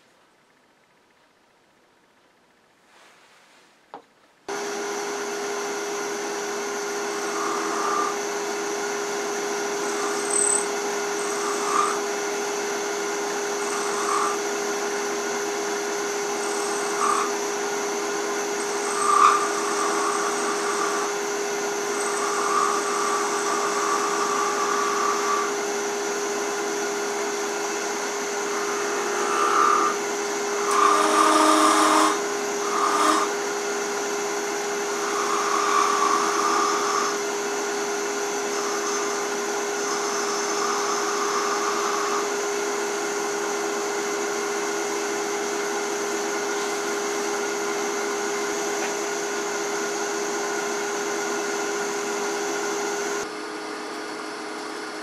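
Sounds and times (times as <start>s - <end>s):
turning tool cutting wood: 4.5s - 53.3s
wood lathe humming: 4.5s - 53.3s.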